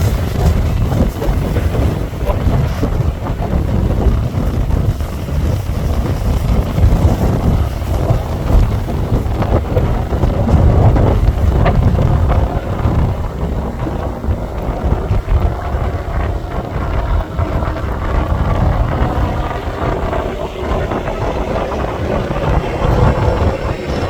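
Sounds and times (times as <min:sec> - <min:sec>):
wind buffeting the microphone: 0:00.0 - 0:24.0.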